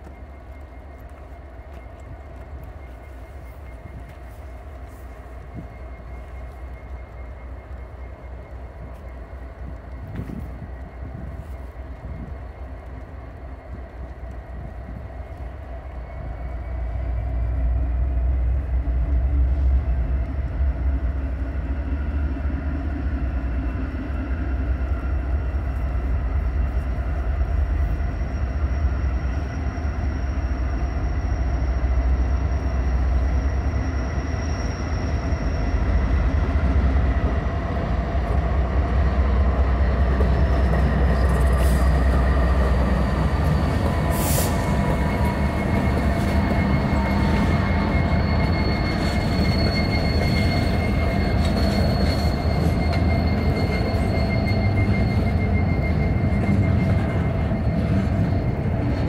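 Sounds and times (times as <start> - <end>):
diesel locomotive engines rumbling: 0.0 - 59.0
faint high whine: 0.0 - 59.0.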